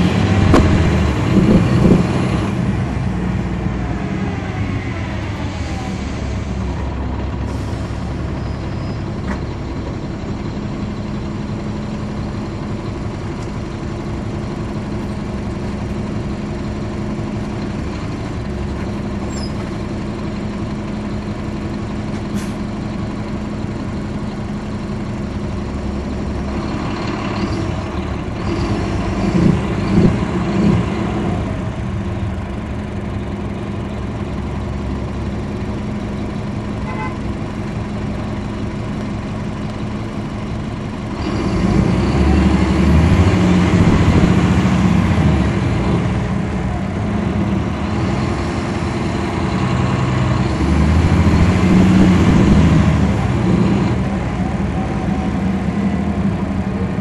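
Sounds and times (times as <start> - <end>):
diesel bus engine running: 0.0 - 57.0.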